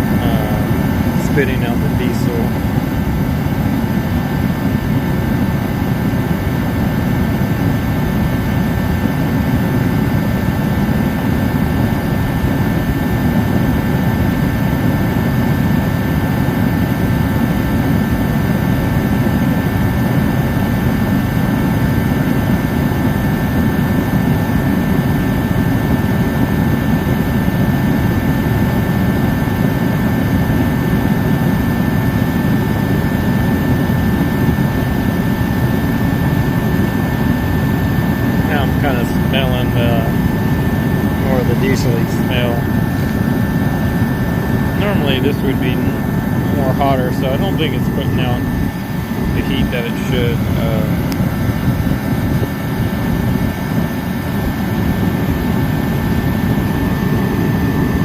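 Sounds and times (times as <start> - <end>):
forced-air heater roaring: 0.0 - 58.0
thin steady whine: 0.0 - 58.0.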